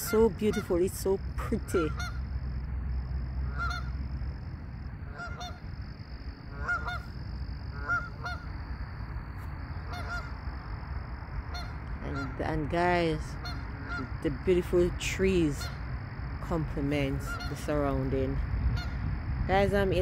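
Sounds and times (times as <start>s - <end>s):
geese honking: 0.0s - 2.4s, 3.4s - 8.8s, 9.4s - 10.7s, 11.4s - 15.9s, 16.5s - 19.1s.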